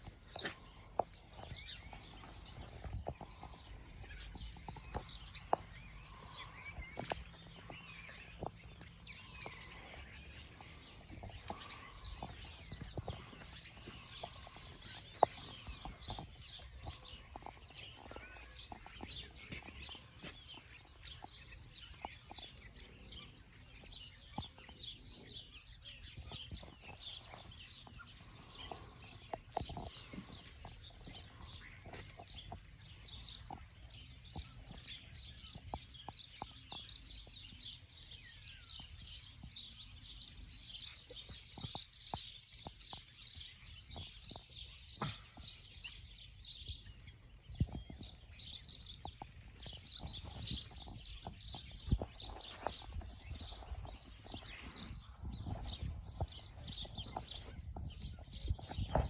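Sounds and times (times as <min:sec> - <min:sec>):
small birds chirping and chattering: 0:00.0 - 0:59.0.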